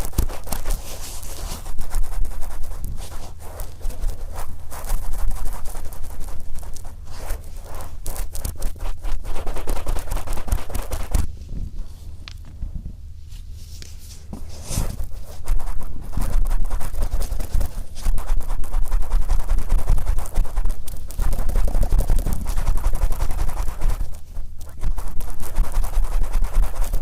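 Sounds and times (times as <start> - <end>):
cotton swab scratching microphone: 0.0 - 12.2, 13.3 - 27.0.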